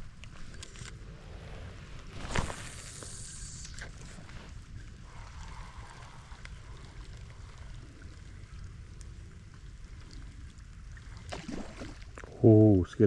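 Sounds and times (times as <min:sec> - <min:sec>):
light rain pattering: 0:00.0 - 0:13.0
low steady rumble: 0:00.0 - 0:13.0.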